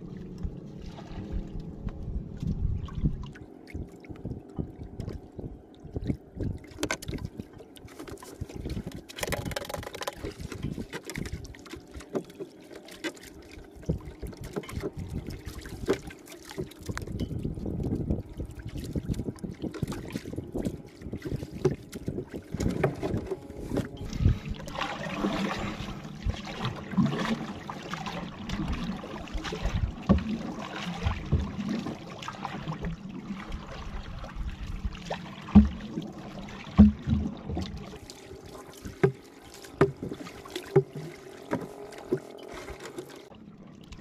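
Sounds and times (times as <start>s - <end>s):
water splashing and trickling: 0.0s - 44.0s.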